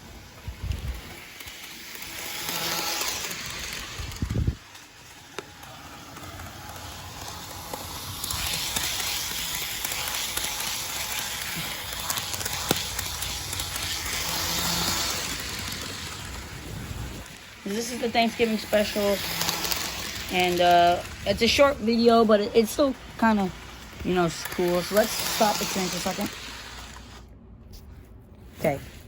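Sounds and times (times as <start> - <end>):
model train running on track: 0.0 - 27.2.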